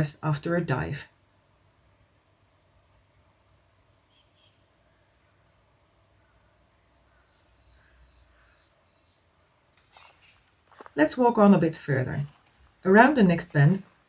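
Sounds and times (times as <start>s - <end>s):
distant birdsong chirps: 0.0s - 14.0s.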